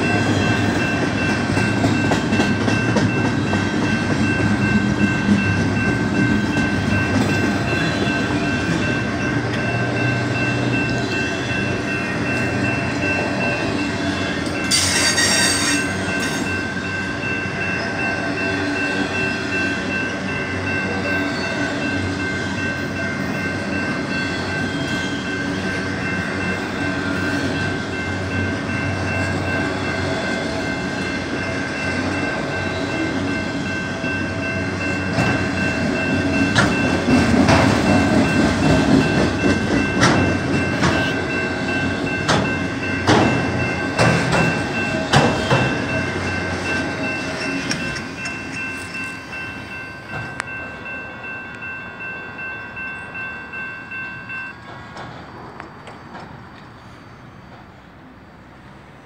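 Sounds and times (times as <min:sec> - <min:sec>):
high-pitched ringing tones: 0:00.0 - 0:58.2
train cars clanking: 0:00.0 - 0:58.9
train wheels rumbling on rail: 0:00.0 - 0:59.0.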